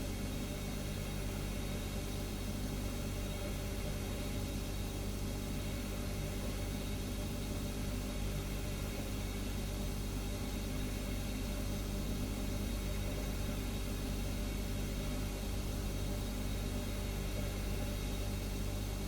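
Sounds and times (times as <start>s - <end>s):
refrigerator humming: 0.0s - 19.0s.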